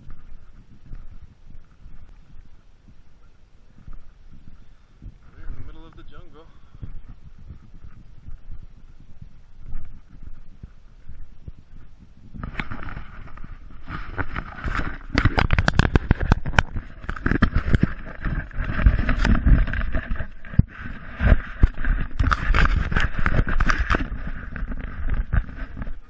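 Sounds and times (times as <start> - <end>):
camera rubbing and knocking: 0.0 - 26.0
footsteps on stone steps: 0.0 - 26.0
low rumble: 0.0 - 26.0.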